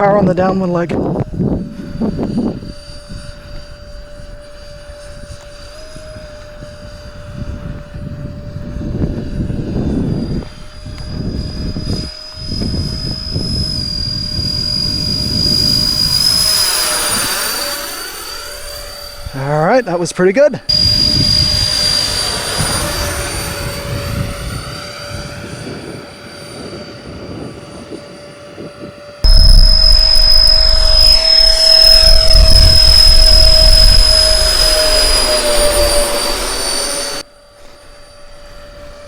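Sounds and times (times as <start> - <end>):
electric ducted fans whining: 0.0 - 39.0.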